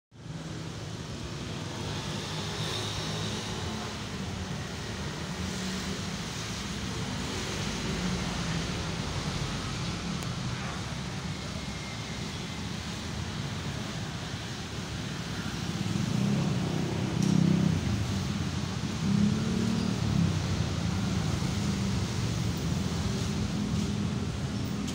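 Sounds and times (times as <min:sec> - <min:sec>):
road traffic rumble: 0:00.2 - 0:24.9.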